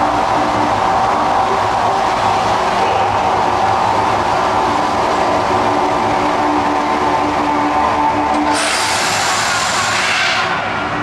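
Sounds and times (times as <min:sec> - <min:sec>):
deep rumble with held tones: 0:00.0 - 0:09.5.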